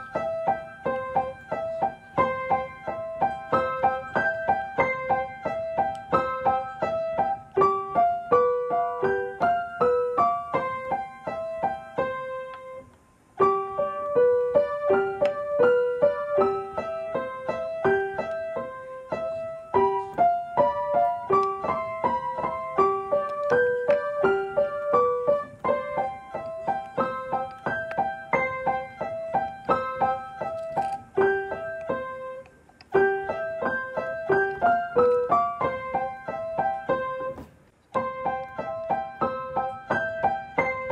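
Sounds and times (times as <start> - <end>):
light quick piano music: 0.0 - 12.8, 13.4 - 32.4, 33.0 - 40.9.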